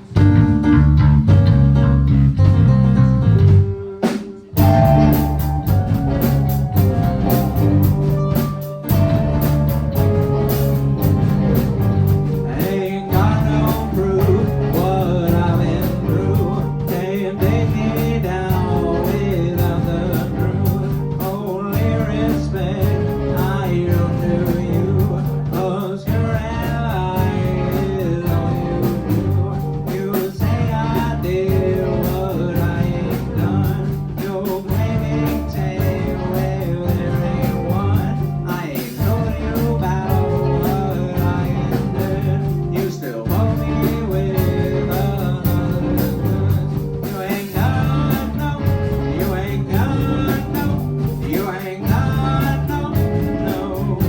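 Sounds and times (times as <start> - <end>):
bass notes: 0.0 - 54.0
electric guitar: 3.1 - 54.0
person singing: 3.6 - 54.0.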